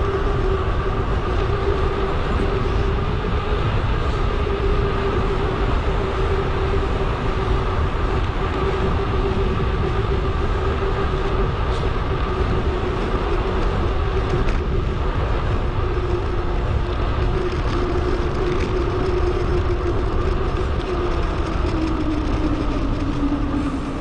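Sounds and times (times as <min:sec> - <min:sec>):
bicycle rolling rumble: 0:00.0 - 0:24.0
wind noise: 0:00.0 - 0:24.0.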